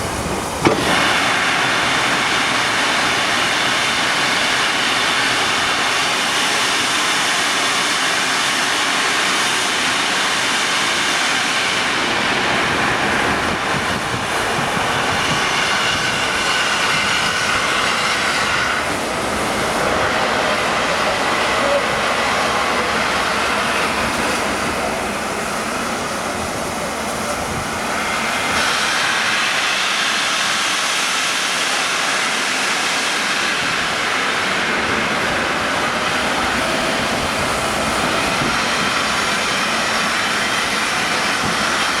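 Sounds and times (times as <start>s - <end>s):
passenger train rumbling past: 0.0s - 42.0s.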